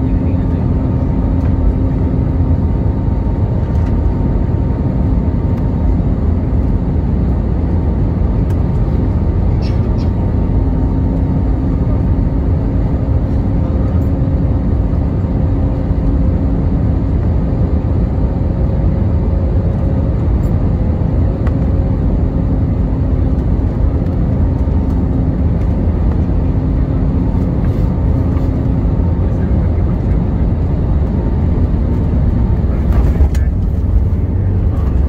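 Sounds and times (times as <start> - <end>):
airflow and engine roar: 0.0 - 35.0
humming engine tone: 0.0 - 35.0.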